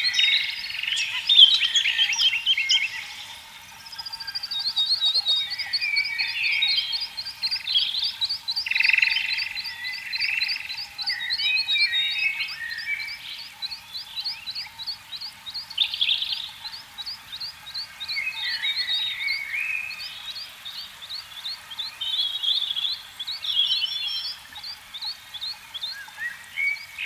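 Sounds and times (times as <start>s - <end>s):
frogs chirping: 0.0s - 27.0s
frogs croaking and trilling: 0.0s - 27.0s.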